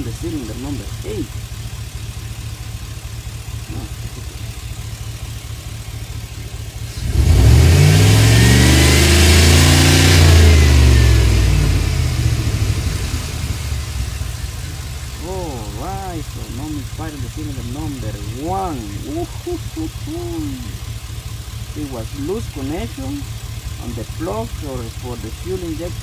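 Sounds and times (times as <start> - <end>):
van engine idling and revving: 0.0 - 26.0.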